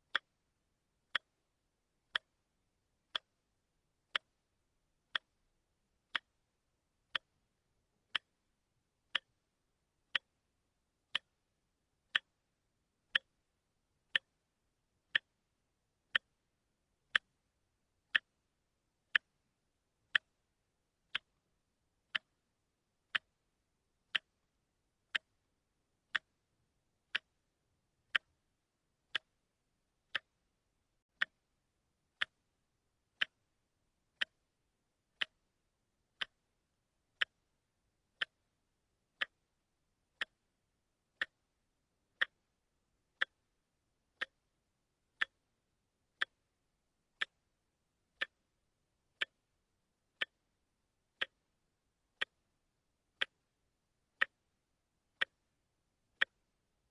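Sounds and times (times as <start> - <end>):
wristwatch ticking: 0.0 - 14.4, 15.0 - 56.9.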